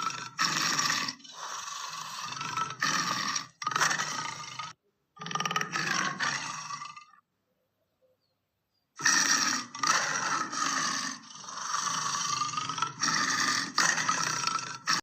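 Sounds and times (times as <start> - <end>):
lion roaring and growling: 0.0 - 7.2, 9.0 - 15.0.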